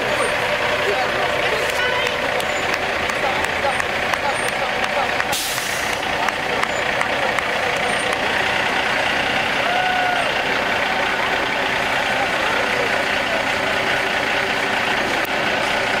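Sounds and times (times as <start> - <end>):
diesel truck engine idling: 0.0 - 16.0
onlookers calling out: 0.0 - 16.0.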